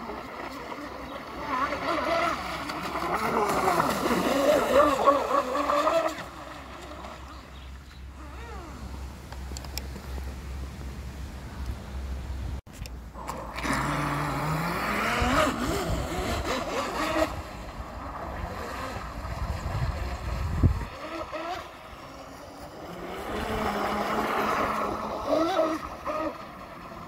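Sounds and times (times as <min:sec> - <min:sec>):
electric boat motor whining: 0:00.0 - 0:10.2, 0:13.1 - 0:27.0.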